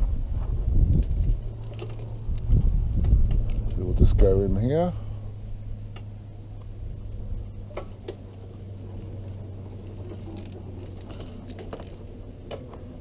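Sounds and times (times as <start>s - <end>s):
wheelchair rolling hum: 0.0s - 5.7s, 6.5s - 13.0s.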